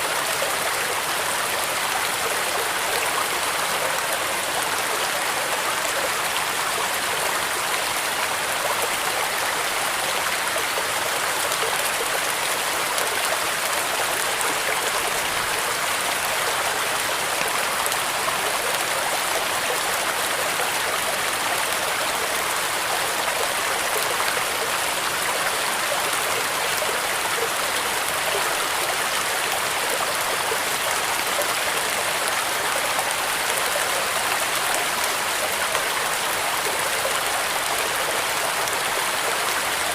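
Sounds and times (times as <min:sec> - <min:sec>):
heavy rain: 0:00.0 - 0:39.9
wind: 0:00.0 - 0:39.9.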